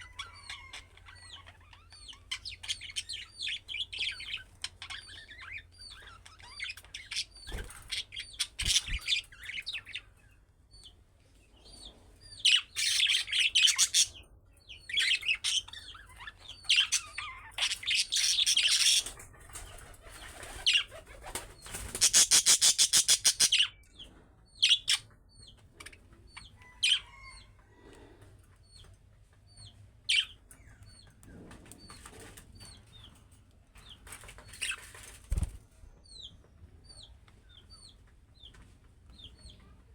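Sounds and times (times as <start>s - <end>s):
budgerigars chirping and chattering: 0.0s - 10.9s, 11.6s - 27.5s, 29.5s - 33.2s, 33.8s - 36.3s.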